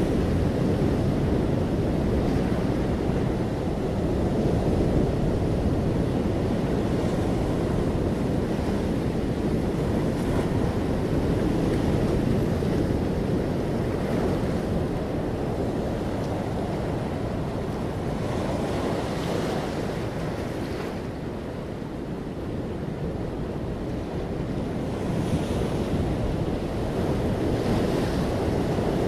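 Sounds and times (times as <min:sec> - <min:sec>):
waves washing onto beach: 0:00.0 - 0:29.0.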